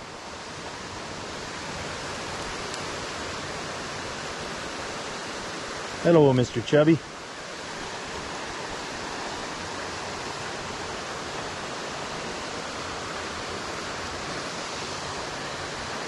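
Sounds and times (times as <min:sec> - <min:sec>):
waterfall rushing into pool: 0:00.0 - 0:16.0.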